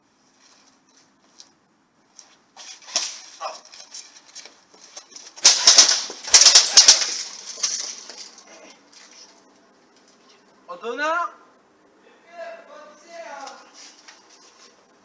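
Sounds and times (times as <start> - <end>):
clothing rustling near microphone: 0.0 - 10.6, 13.5 - 15.0.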